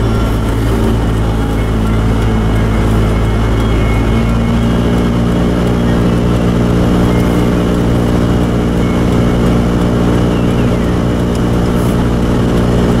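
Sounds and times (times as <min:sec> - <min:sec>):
heater blower running: 0:00.0 - 0:13.0
steady engine drone: 0:00.0 - 0:13.0.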